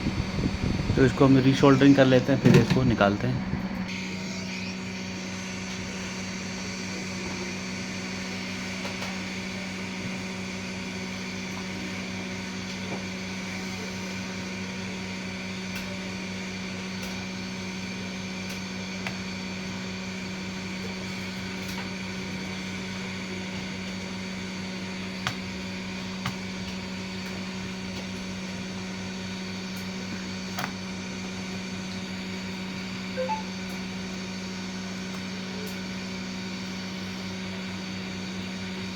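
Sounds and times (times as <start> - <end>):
hot air blower humming: 0.0 - 38.9.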